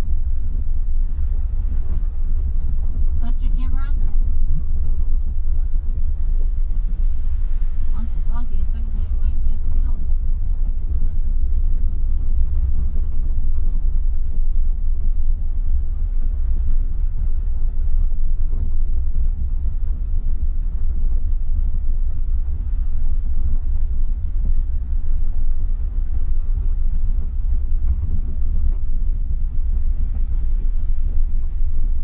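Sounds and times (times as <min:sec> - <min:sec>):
jeep engine and tyres rumbling: 0:00.0 - 0:32.0.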